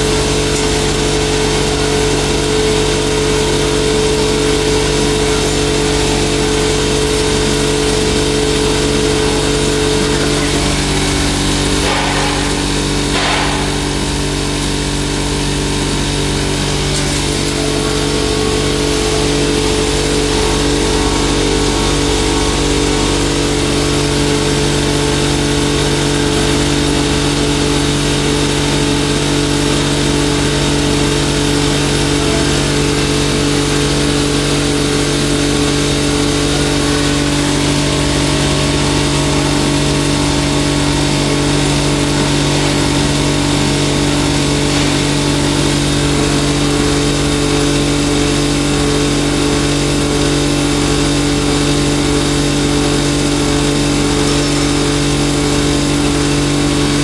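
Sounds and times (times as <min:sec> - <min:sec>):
hammer mill humming: 0:00.0 - 0:57.0.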